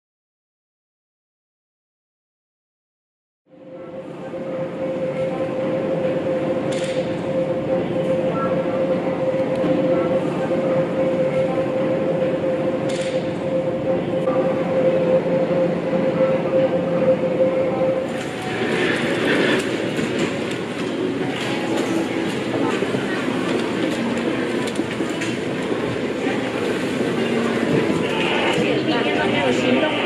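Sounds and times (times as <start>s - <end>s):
mid-pitched whine: 3.5s - 30.0s
steady mechanical hum: 3.5s - 30.0s.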